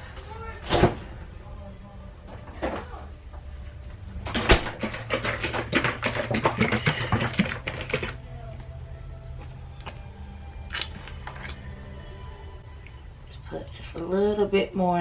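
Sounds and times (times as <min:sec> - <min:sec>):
low hum: 0:00.9 - 0:15.0.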